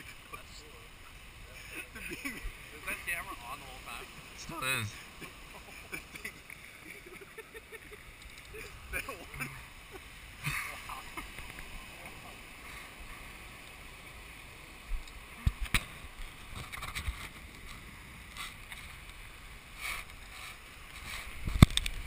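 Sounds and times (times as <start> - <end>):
distant surf: 0.0 - 22.0
wind: 0.0 - 22.0.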